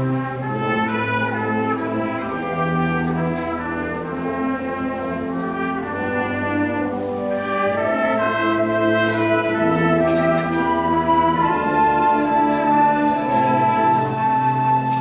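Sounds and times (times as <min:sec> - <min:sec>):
concert band brass chords: 0:00.0 - 0:15.0.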